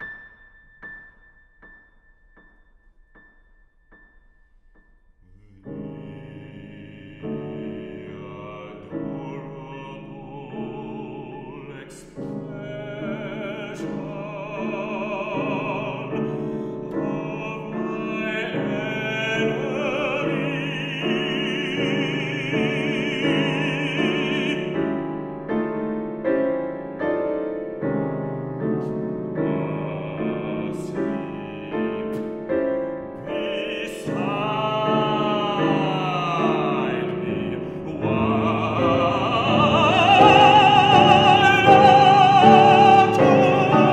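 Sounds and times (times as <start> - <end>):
grand piano: 0.0 - 43.9
man singing with vibrato: 5.3 - 25.4, 28.7 - 43.9.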